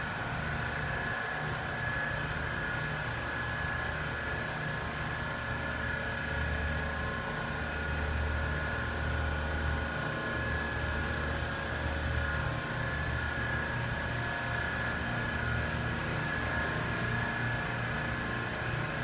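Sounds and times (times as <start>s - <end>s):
forklift whine and hum: 0.0s - 19.0s.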